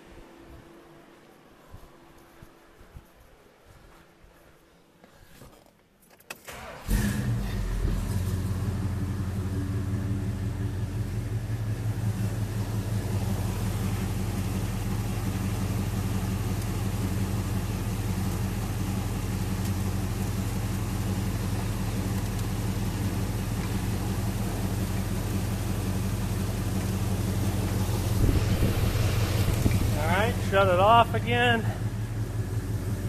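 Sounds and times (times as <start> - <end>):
car engine starting and idling: 6.3 - 33.0.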